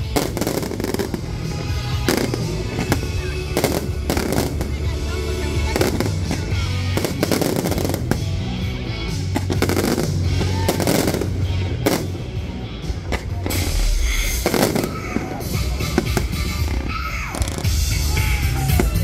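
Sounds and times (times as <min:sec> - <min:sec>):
fireworks bursting and crackling: 0:00.0 - 0:19.0
music with heavy bass: 0:00.0 - 0:19.0.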